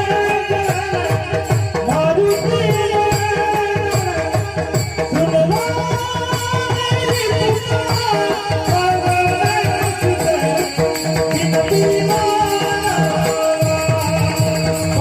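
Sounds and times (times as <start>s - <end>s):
fast hand-drum strokes: 0.0s - 15.0s
jingling hand cymbals: 0.0s - 15.0s.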